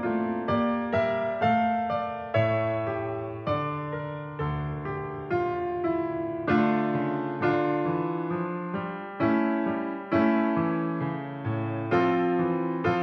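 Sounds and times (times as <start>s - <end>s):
gentle keyboard melody: 0.0s - 13.0s.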